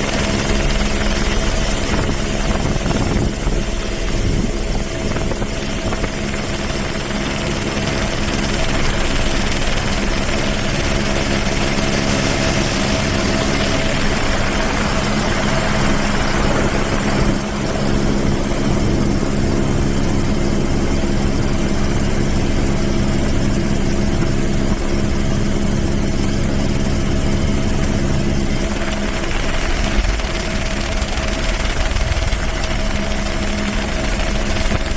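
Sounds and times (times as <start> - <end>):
engine running steadily: 0.0 - 34.9.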